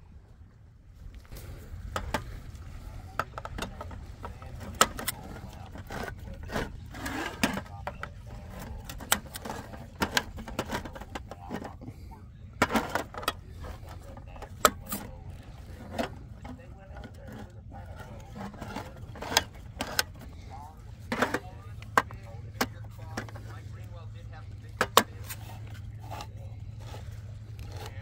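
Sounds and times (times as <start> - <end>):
low steady rumble: 0.0 - 28.0
scraping and rustling: 1.1 - 28.0
tripod clicks and rattles: 1.1 - 28.0.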